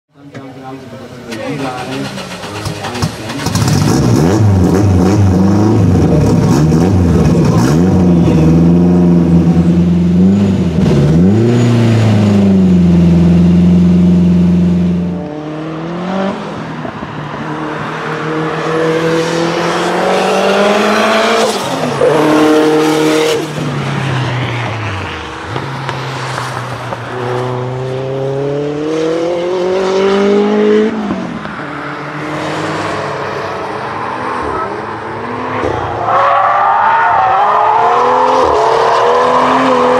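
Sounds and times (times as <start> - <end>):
rally car engine revving: 1.1 - 39.9
car accelerating through gears: 1.4 - 39.9.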